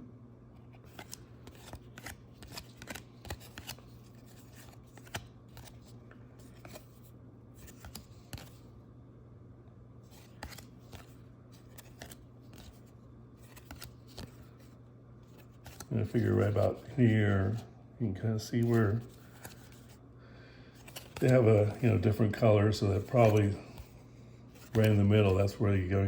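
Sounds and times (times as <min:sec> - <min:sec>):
steady low hum: 0:00.0 - 0:26.0
cards clicking and rustling: 0:00.6 - 0:08.7, 0:10.1 - 0:17.6, 0:18.5 - 0:20.0, 0:20.7 - 0:25.9.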